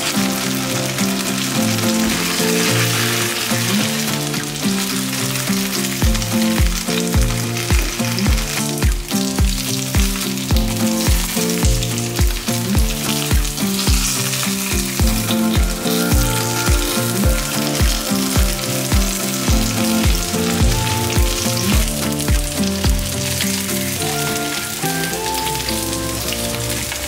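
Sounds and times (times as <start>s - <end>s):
background music with beat: 0.0s - 27.0s
tofu sizzling in oil: 0.0s - 27.0s.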